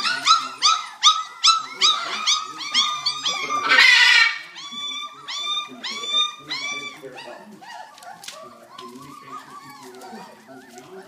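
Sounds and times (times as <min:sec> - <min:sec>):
puppies squealing and whimpering: 0:00.0 - 0:11.0.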